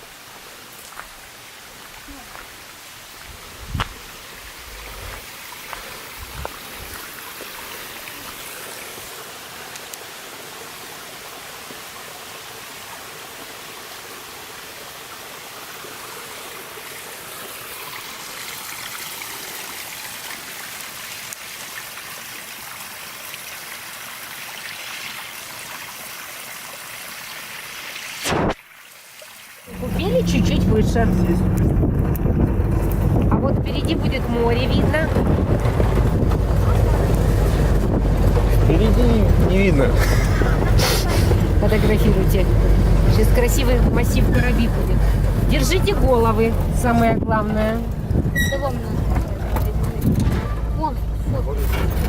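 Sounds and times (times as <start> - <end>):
rushing mountain stream: 0.0 - 52.0.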